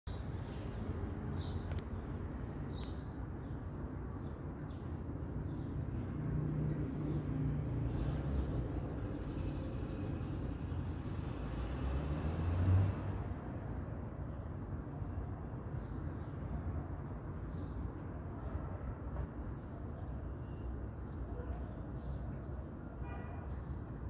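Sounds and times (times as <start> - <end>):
low rumble of passing traffic: 0.1 - 24.0.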